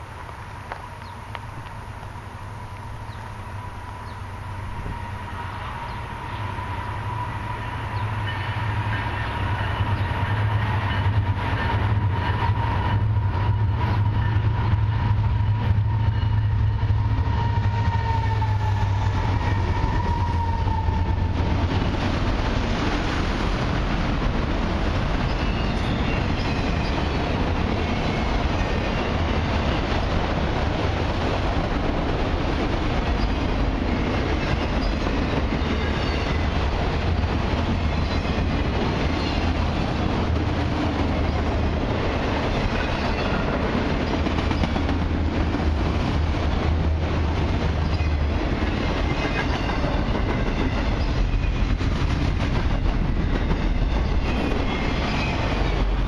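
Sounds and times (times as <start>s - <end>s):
train wheels clickety-clack: 3.9s - 56.0s.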